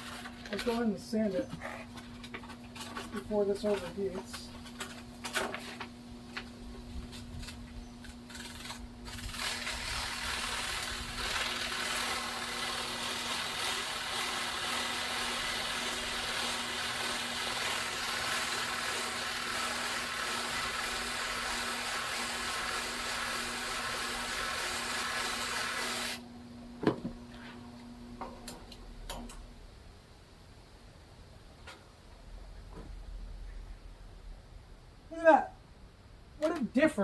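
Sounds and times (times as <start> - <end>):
fan motor humming: 0.0 - 29.7.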